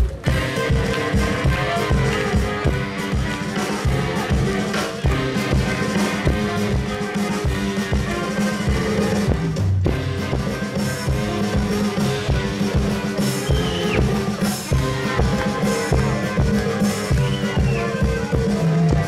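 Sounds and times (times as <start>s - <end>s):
brass band playing dance tune: 0.0s - 19.0s.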